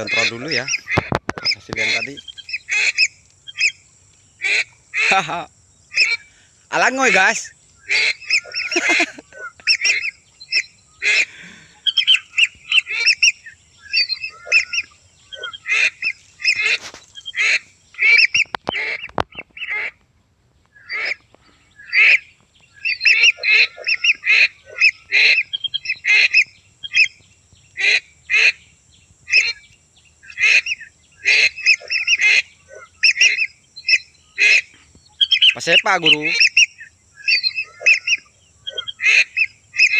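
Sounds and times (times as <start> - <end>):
ducks whistling calls: 0.0 - 20.0, 20.6 - 39.9.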